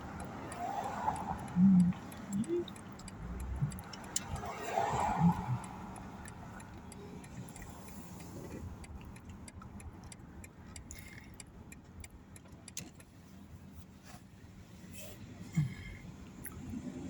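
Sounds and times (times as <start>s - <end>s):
turn signal clicking: 0.0s - 13.9s
road and engine noise: 0.0s - 17.0s.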